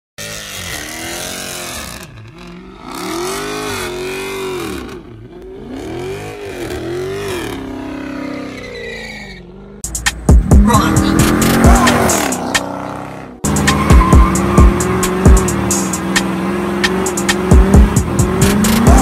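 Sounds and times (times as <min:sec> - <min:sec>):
car engine revving hard: 0:00.2 - 0:08.6, 0:09.6 - 0:19.0
tyres spinning in a burnout: 0:00.2 - 0:09.8, 0:10.4 - 0:19.0.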